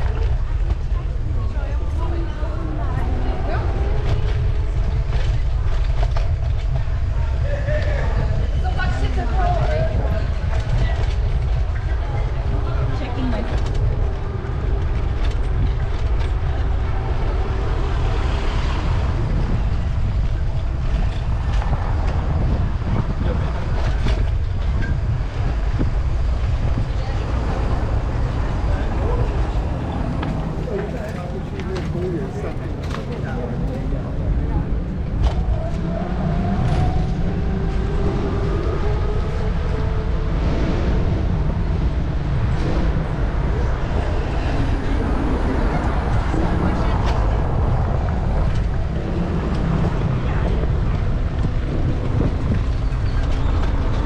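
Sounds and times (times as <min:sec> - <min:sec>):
city street noise: 0:00.0 - 0:54.0
wind buffeting microphone: 0:00.0 - 0:54.0.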